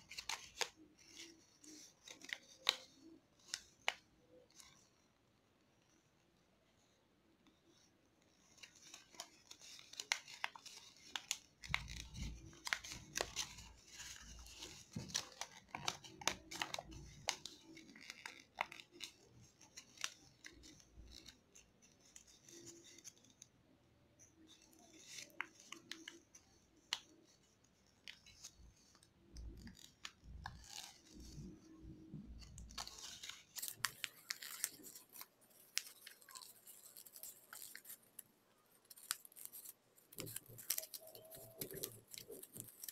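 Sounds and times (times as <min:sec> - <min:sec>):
paper crinkling and crackling: 0:00.0 - 0:05.2, 0:07.7 - 0:23.6, 0:24.2 - 0:42.9.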